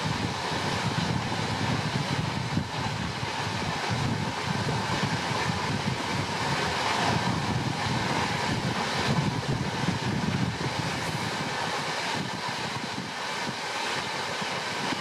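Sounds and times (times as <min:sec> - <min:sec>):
train wheels rumbling: 0:00.0 - 0:15.0
wind on microphone: 0:00.0 - 0:15.0.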